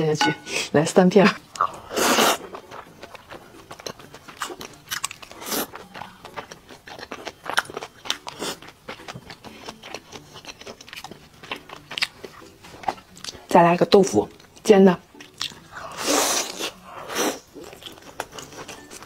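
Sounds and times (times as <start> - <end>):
chewing with mouth clicks: 1.5 - 13.5, 14.3 - 19.0.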